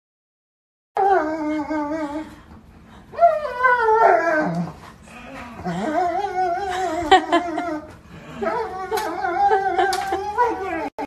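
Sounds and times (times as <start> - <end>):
dog howling and whining: 1.0 - 2.4, 3.1 - 11.0.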